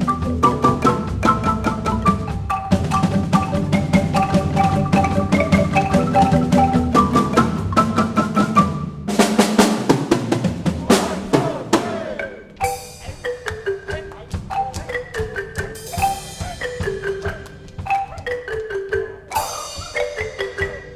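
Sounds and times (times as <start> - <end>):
mallet-like pitched notes: 0.0 - 9.2, 10.9 - 20.9
drum and percussion beat: 0.0 - 20.9.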